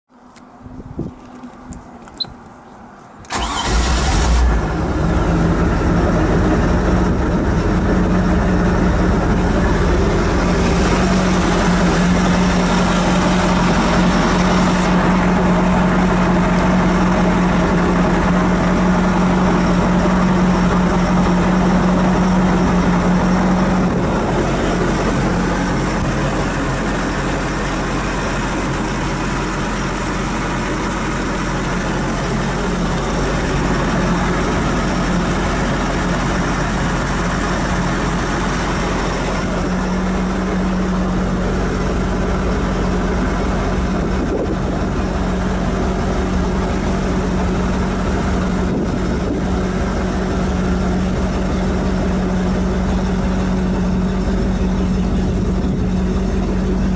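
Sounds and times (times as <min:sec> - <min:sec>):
boat engine starting and idling: 0:03.2 - 0:56.9.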